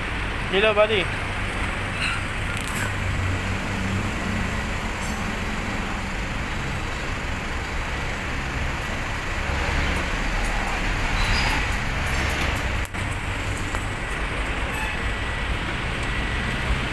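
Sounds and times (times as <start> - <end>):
low rumble of motor vehicles: 0.0 - 16.9.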